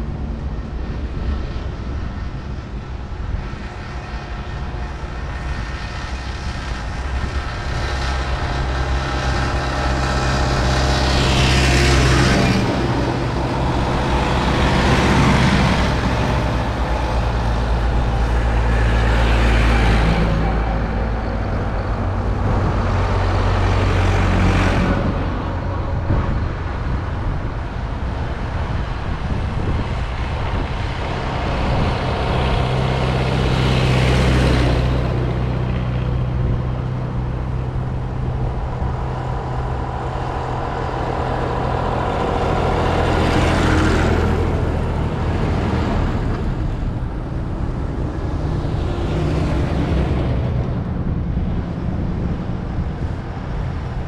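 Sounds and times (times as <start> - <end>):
tractors driving past: 0.0 - 54.0.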